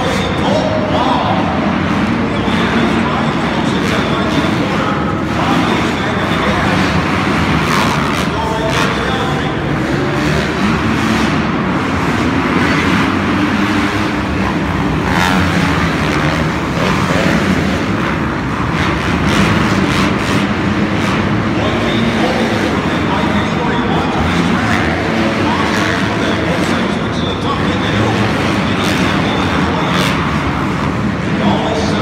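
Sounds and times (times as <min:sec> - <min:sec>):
dirt bike engines running: 0:00.0 - 0:32.0.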